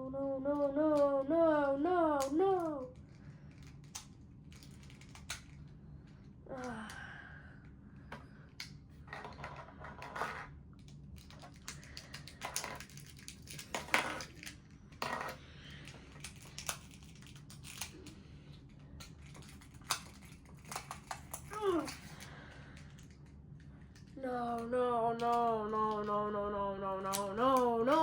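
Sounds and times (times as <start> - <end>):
plastic puzzle pieces clicking: 2.2 - 5.7, 8.1 - 26.2, 27.0 - 28.0.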